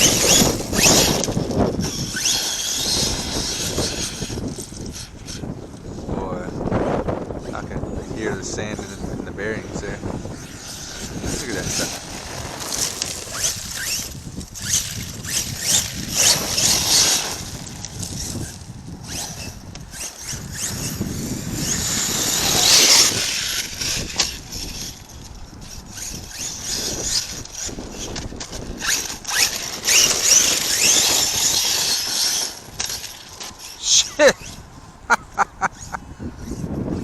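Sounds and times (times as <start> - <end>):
rc truck motor whining: 0.0 - 37.0.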